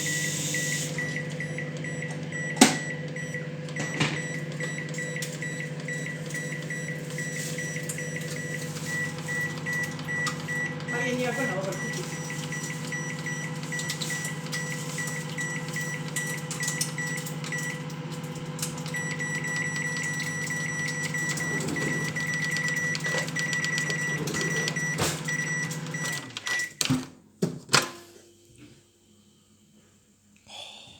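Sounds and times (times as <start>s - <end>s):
microwave oven humming: 0.0s - 30.2s.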